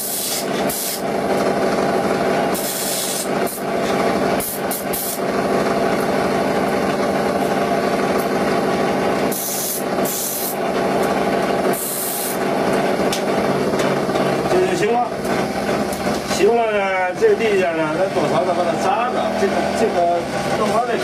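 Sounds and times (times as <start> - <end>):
grinding wheel motor hum: 0.0 - 21.0.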